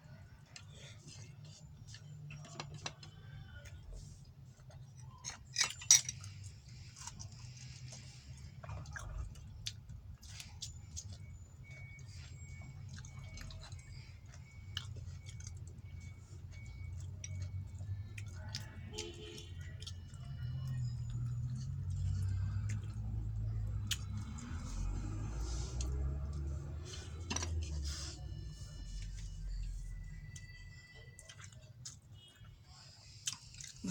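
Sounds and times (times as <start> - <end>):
chewing and eating: 0.0 - 33.9.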